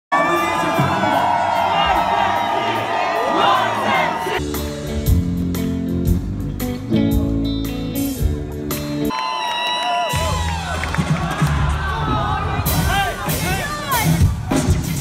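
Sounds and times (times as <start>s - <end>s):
crowd noise: 0.1s - 15.0s
live rock band playing: 0.2s - 9.2s, 10.1s - 15.0s.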